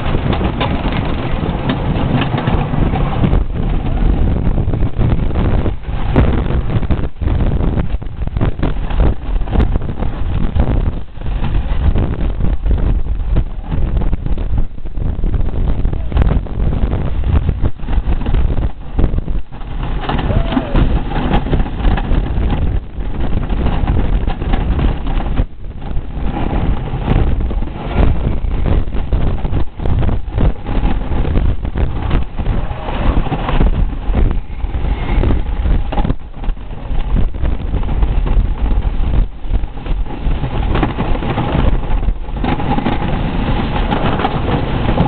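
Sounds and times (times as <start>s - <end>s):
roller coaster rumbling and clacking: 0.0s - 45.0s
wind over microphone: 0.0s - 45.0s.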